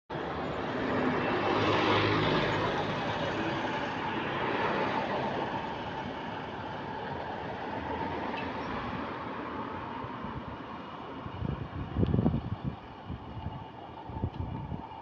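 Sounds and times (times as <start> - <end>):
bus engine hum: 0.1 - 15.0
road and body noise: 0.1 - 15.0.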